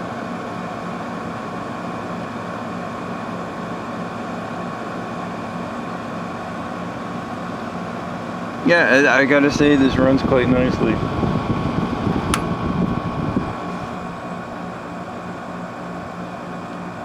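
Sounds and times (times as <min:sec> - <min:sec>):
window air conditioner running: 0:00.0 - 0:17.0.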